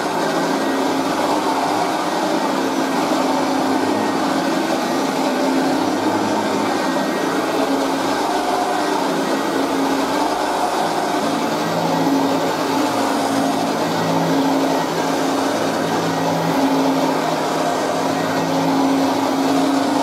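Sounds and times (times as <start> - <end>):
upright vacuum cleaner on carpet: 0.0 - 20.0.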